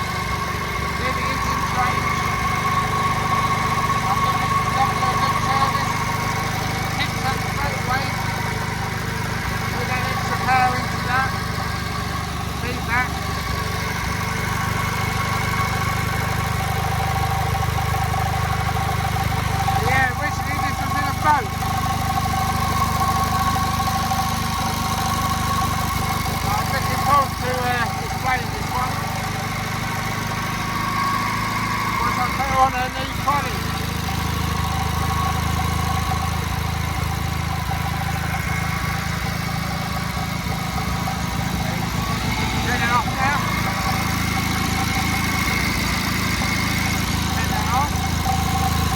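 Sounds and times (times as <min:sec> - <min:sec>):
stationary engine running: 0:00.0 - 0:48.9.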